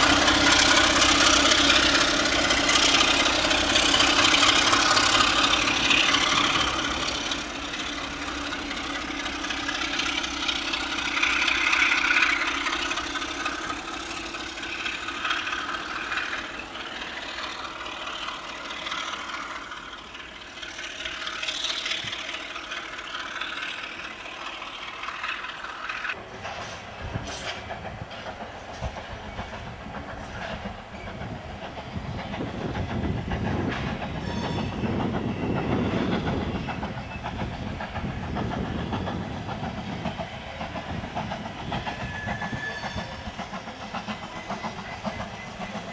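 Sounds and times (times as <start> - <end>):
deep train rumble: 0.0 - 45.9
train passing: 0.0 - 45.9
wheels clicking over rail joints: 0.0 - 45.9.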